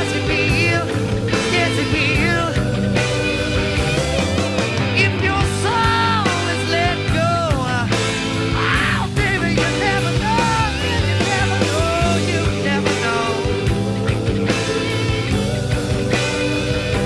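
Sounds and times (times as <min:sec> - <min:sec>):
person singing: 0:00.0 - 0:15.1
bass: 0:00.0 - 0:17.0
drum beat: 0:00.0 - 0:17.0
electric guitar: 0:00.0 - 0:17.0.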